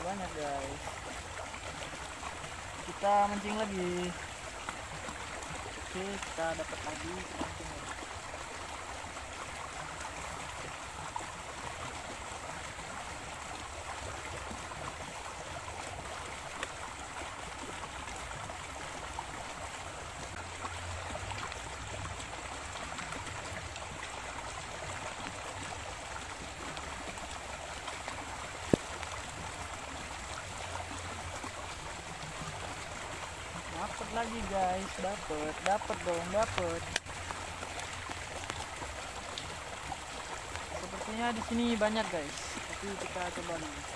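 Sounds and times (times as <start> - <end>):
river water rushing: 0.0 - 43.9.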